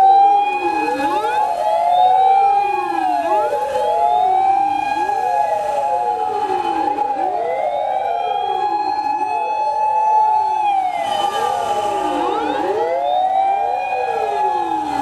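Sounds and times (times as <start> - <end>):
fire engine sirens wailing: 0.0 - 15.0
steady high siren tone: 0.0 - 15.0.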